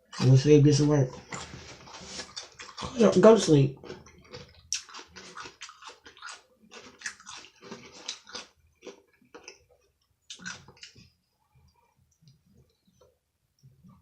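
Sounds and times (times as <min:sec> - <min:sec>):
person chewing food: 0:01.1 - 0:14.0.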